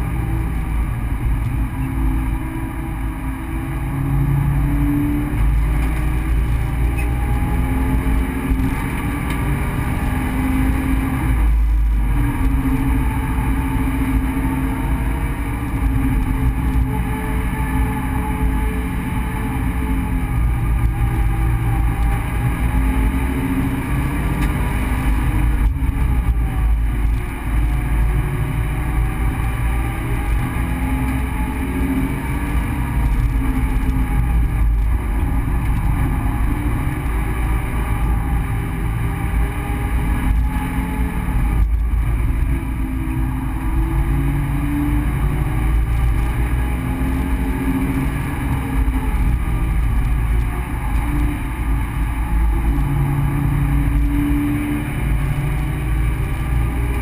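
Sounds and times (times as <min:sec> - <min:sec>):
car engine revving: 0:00.0 - 0:57.0
low road rumble: 0:00.0 - 0:57.0.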